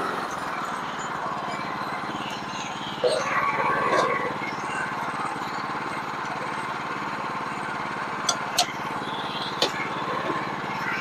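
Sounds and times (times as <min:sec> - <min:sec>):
small gas engine running: 0:00.0 - 0:11.0.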